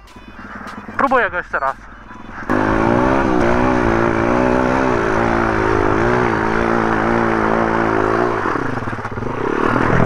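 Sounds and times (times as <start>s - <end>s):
motorbike engine at high revs: 1.9s - 10.0s.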